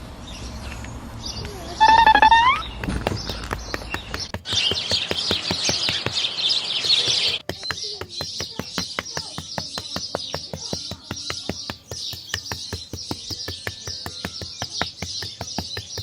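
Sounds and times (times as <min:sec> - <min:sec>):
small birds chirping: 0:00.2 - 0:16.0
even ticking: 0:01.8 - 0:16.0.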